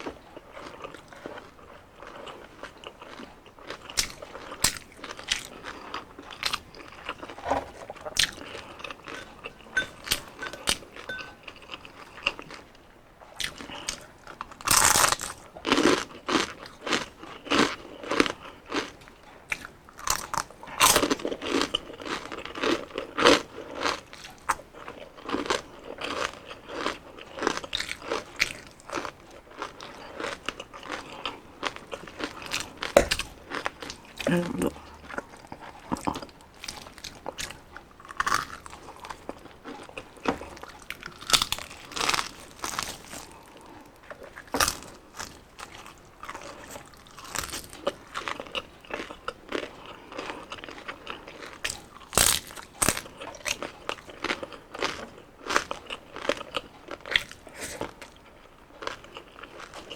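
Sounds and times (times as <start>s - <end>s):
crunching and chewing crispy skin: 0.0s - 59.9s.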